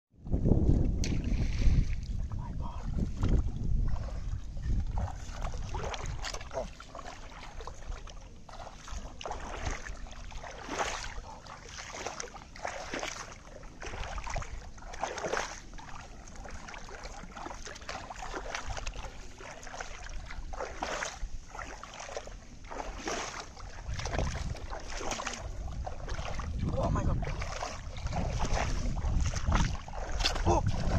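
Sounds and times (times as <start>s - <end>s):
wind rumble on microphone: 0.2s - 30.9s
water splashing while wading: 0.3s - 30.9s.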